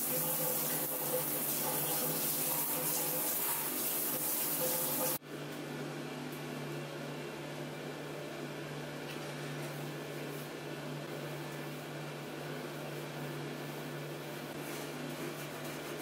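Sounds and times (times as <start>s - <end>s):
low machine hum with hiss: 0.0s - 16.0s.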